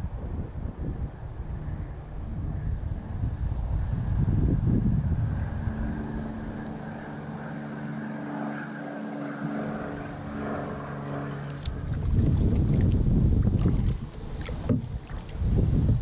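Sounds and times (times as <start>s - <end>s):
wind buffeting microphone: 0.0s - 7.7s, 9.5s - 16.0s
steady engine drone: 0.0s - 16.0s.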